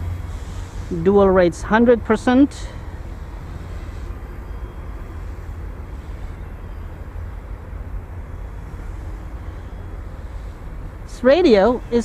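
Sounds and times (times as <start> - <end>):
small helicopter motor whine: 0.0 - 12.0.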